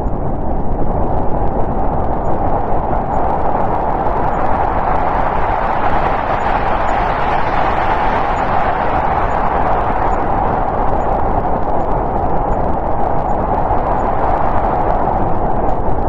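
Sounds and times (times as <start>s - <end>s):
snowstorm wind rushing: 0.0s - 16.0s.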